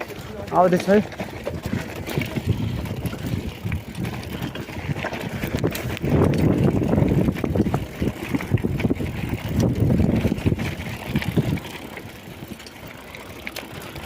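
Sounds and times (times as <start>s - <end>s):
bike frame rattling: 0.0s - 14.0s
bike tyres rumbling on dirt: 0.0s - 14.0s
wind buffeting microphone: 0.2s - 12.5s.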